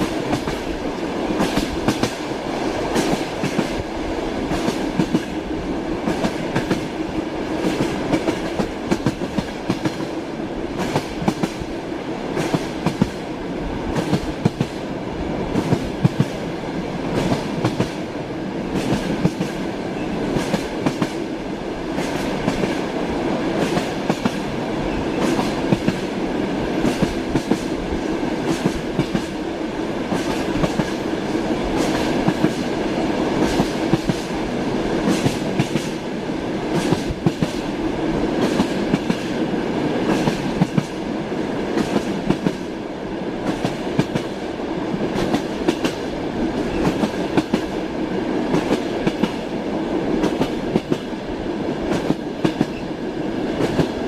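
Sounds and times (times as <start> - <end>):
train wheels clattering over rails: 0.0 - 13.2, 13.9 - 14.8, 15.5 - 42.8, 43.4 - 47.8, 48.4 - 51.2, 51.8 - 54.0.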